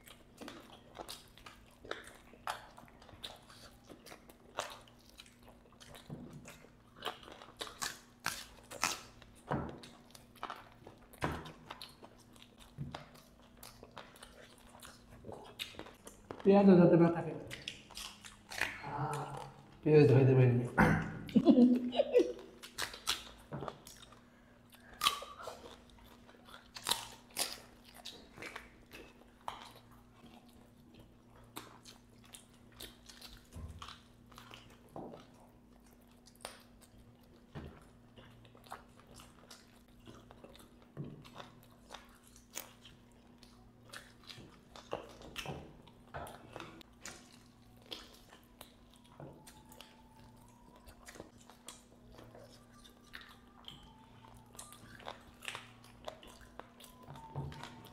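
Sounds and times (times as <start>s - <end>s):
people chewing and biting: 0.0s - 16.6s, 17.4s - 57.9s
faint low hum: 0.0s - 57.9s.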